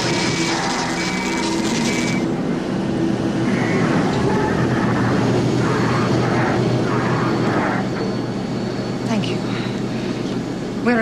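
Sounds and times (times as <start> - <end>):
flying craft drone with rushing: 0.0 - 9.7.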